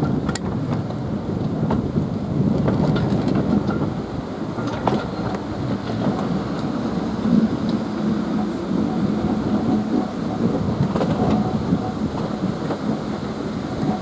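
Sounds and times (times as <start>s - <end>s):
locomotive rumbling: 0.0s - 14.0s
train wheels on rails: 0.0s - 14.0s.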